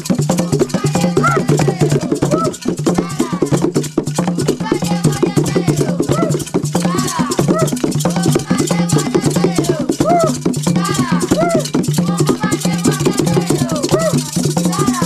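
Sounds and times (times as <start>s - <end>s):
shaken rattles: 0.0s - 15.0s
voices calling: 0.4s - 3.6s, 4.5s - 15.0s.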